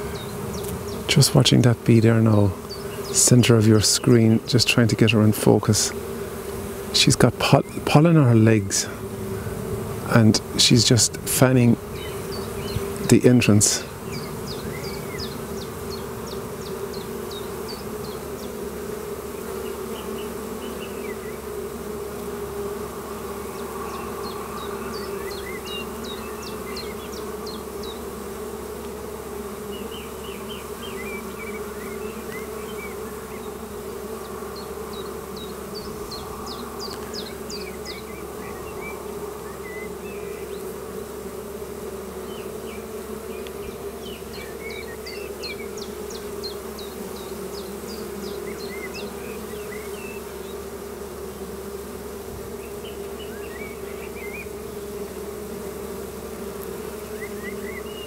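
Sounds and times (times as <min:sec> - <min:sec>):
honeybees humming: 0:00.0 - 0:58.0.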